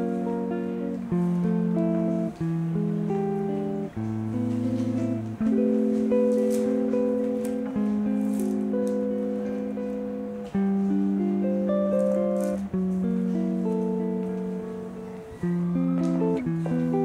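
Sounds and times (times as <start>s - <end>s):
slow held music chords: 0.0s - 17.0s.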